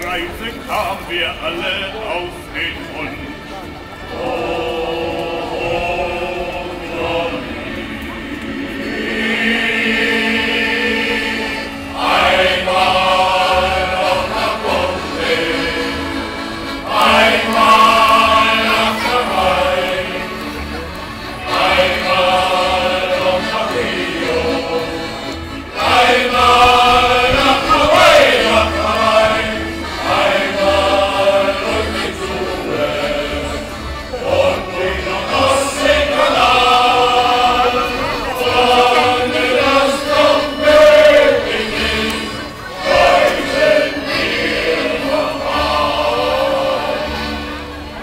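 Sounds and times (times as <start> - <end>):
male choir singing a sea shanty: 0.0 - 48.0.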